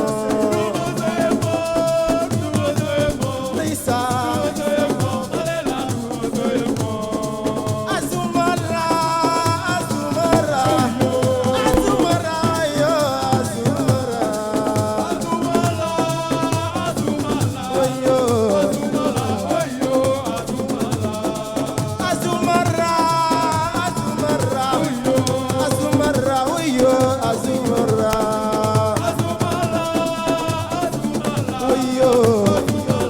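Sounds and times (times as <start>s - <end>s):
percussion and shaker rattles: 0.0s - 33.0s.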